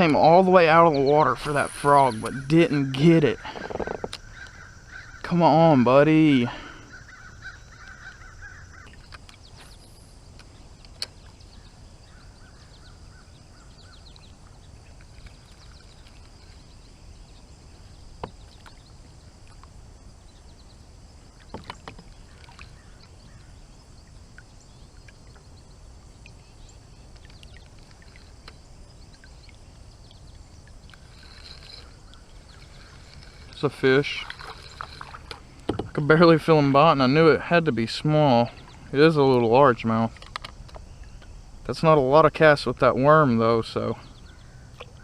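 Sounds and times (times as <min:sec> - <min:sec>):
faint bird chirps: 0:00.0 - 0:35.2, 0:43.7 - 0:45.0
wind and water rumble: 0:00.0 - 0:45.0.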